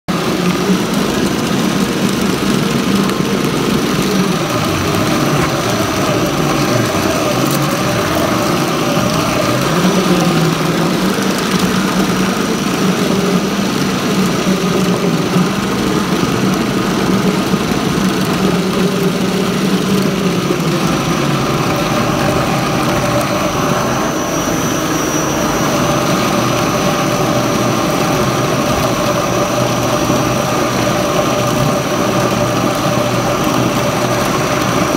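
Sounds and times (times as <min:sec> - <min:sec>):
meat grinder humming: 0:00.1 - 0:34.9.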